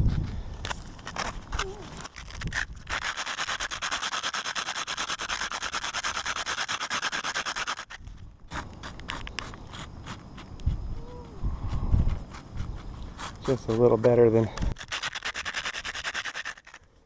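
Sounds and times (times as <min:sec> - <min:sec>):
faint scratches: 0:01.0 - 0:16.8.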